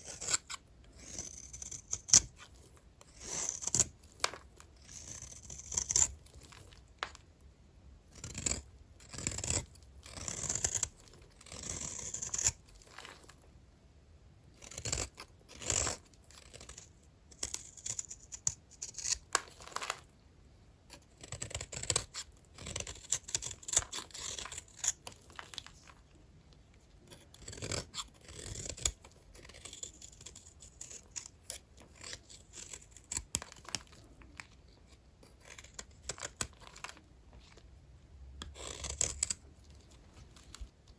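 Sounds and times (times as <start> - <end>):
blade cutting dry soap: 0.0 - 7.3, 8.0 - 13.4, 14.5 - 20.1, 20.9 - 26.2, 27.0 - 37.6, 38.3 - 40.9.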